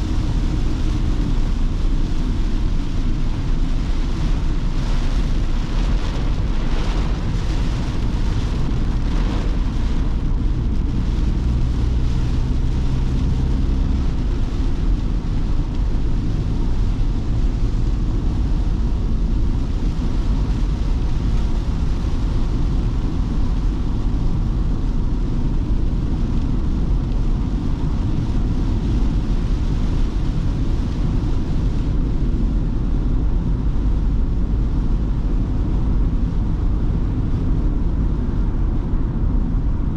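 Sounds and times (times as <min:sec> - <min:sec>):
heavy rain: 0:00.0 - 0:39.9
van engine and road rumble: 0:00.0 - 0:39.9.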